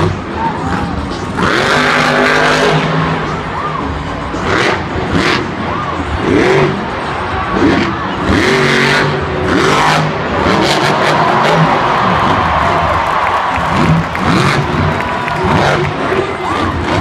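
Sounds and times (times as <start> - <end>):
truck engines revving hard: 0.0 - 17.0.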